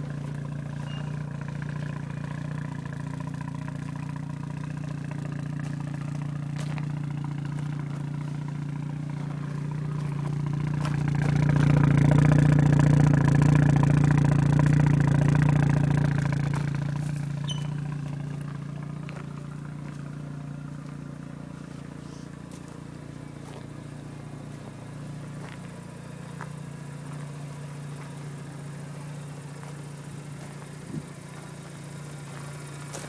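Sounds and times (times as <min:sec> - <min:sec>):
rotary engine idling: 0:00.0 - 0:33.0.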